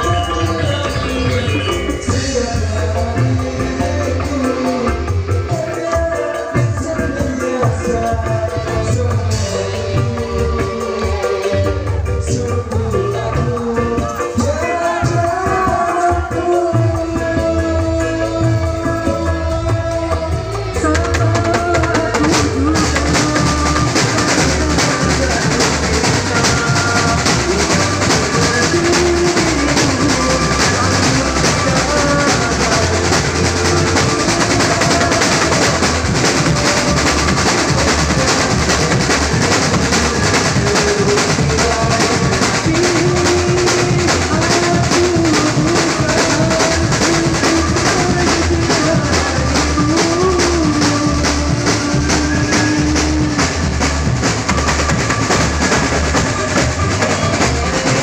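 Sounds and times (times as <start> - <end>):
band music: 0.0 - 58.0
drum kit beat: 0.0 - 58.0.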